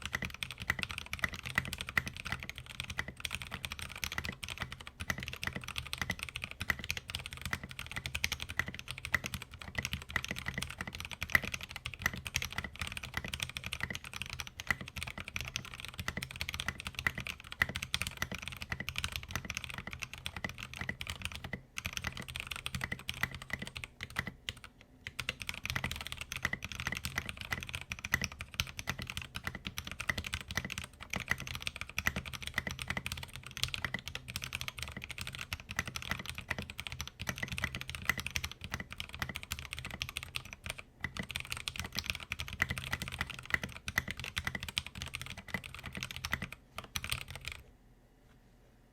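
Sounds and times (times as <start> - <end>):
fast typing on mechanical keyboard: 0.0 - 47.6.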